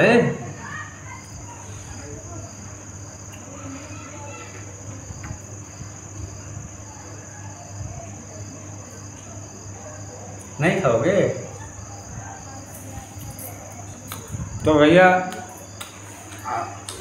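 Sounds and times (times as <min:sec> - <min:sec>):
crickets trilling: 0:00.0 - 0:17.0
faint voices murmuring: 0:00.0 - 0:17.0.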